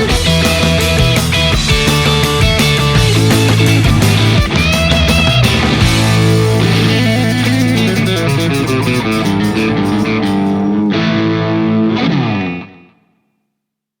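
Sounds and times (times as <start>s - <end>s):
rock music with electric guitar: 0.0s - 13.1s.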